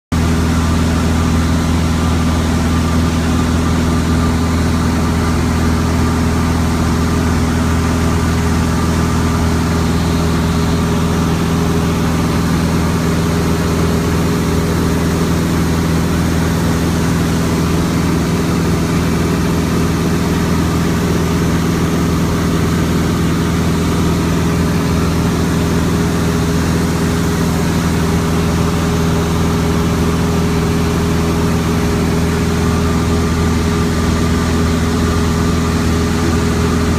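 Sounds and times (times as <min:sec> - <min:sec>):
propeller aircraft engine droning: 0:00.1 - 0:36.9.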